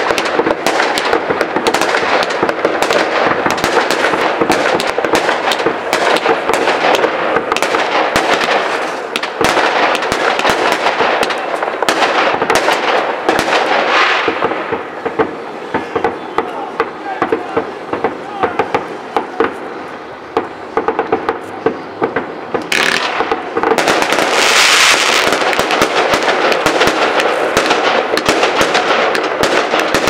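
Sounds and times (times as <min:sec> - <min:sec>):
fireworks crackling and bursting: 0:00.0 - 0:30.0
sharp firework bangs: 0:00.0 - 0:30.0.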